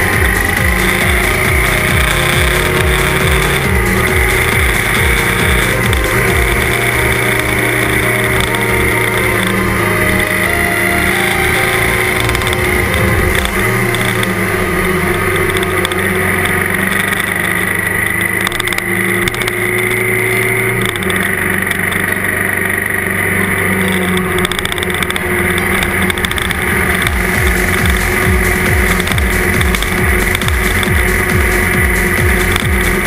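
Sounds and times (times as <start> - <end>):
motorcycle engine running steadily: 0.0 - 33.0.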